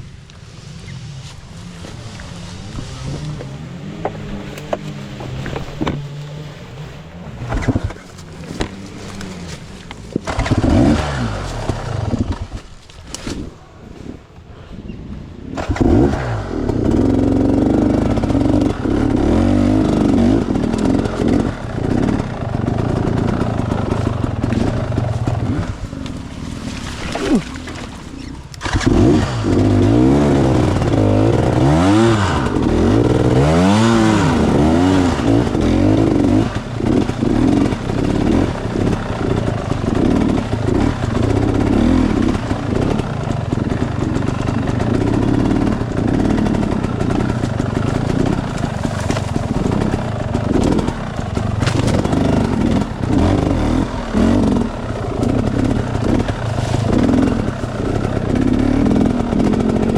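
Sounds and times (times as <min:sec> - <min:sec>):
dirt bike engine revving: 0:00.0 - 0:14.2, 0:15.4 - 0:59.9.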